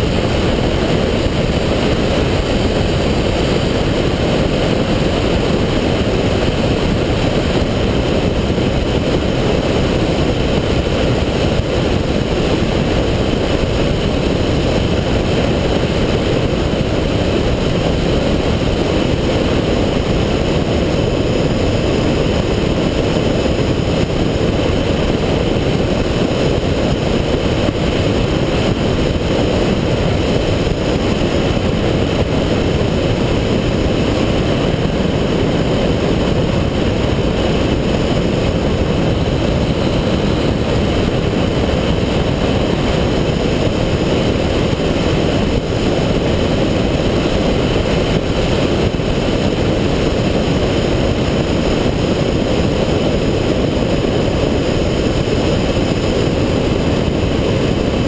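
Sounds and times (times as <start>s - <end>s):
aircraft engine droning: 0.0s - 58.0s.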